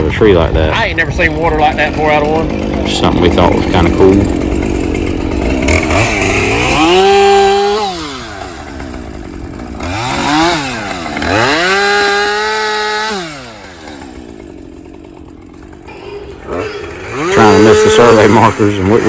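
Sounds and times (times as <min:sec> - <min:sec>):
chainsaw idling: 0:00.0 - 0:19.0
chainsaw revving: 0:00.0 - 0:19.0.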